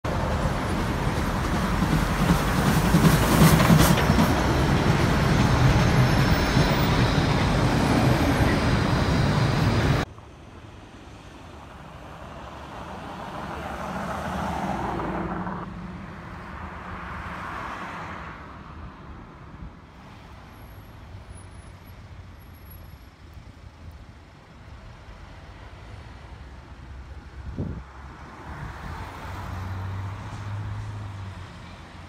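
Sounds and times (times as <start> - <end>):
loud dense vehicle rumble: 0.0 - 14.0, 18.8 - 32.0
road traffic: 0.0 - 32.0.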